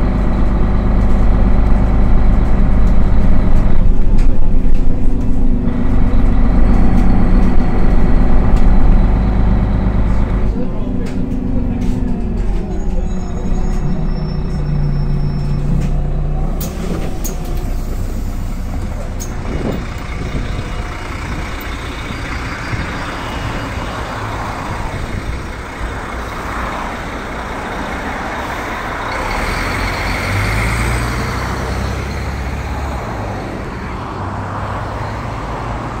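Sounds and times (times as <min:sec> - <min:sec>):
bus diesel engine idling: 0:00.0 - 0:36.0
traffic passing: 0:00.0 - 0:36.0.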